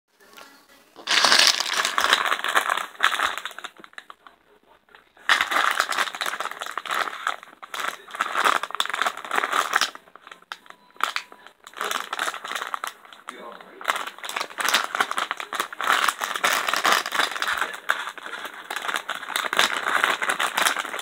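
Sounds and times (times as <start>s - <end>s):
plastic bag crinkling: 1.0s - 4.3s, 5.2s - 21.0s.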